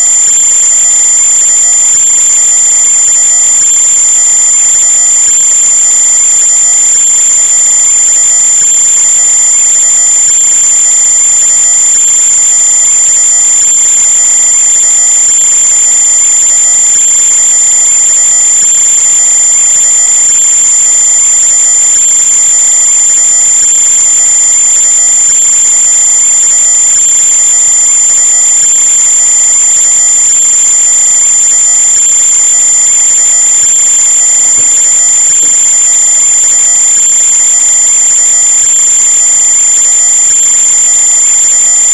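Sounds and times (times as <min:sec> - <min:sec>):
steady high-pitched whine: 0:00.0 - 0:41.9.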